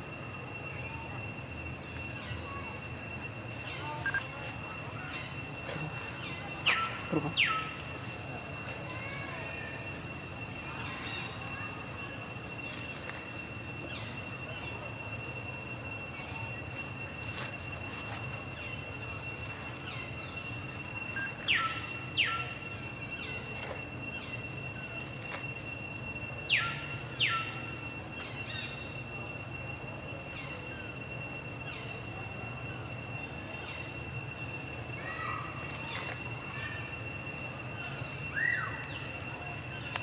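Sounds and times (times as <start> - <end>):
high-pitched insect drone: 0.0 - 40.0.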